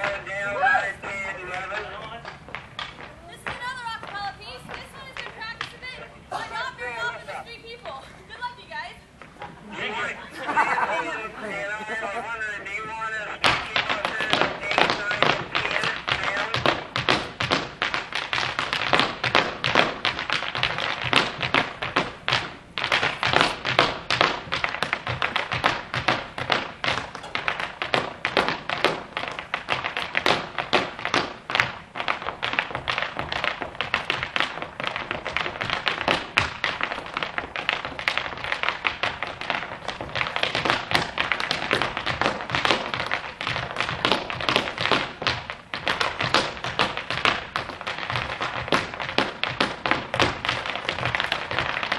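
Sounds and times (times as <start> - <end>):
hard shoes tapping on stage floor: 0.0 - 51.9.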